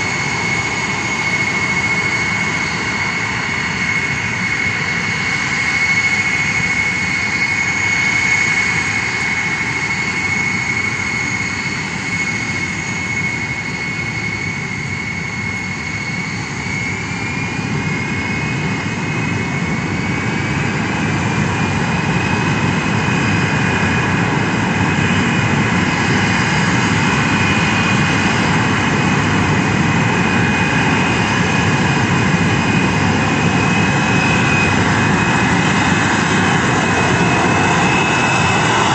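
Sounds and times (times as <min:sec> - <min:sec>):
jet engines rumbling and whining: 0:00.0 - 0:38.9.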